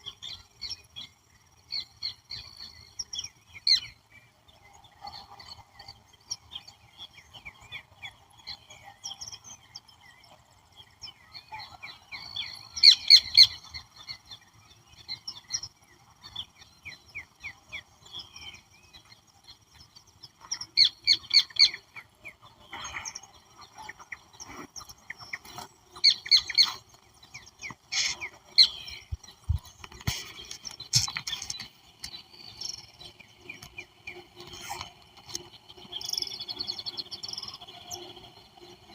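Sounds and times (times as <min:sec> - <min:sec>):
insect drone: 0:00.0 - 0:38.9
wild birds calling and singing: 0:00.0 - 0:38.9.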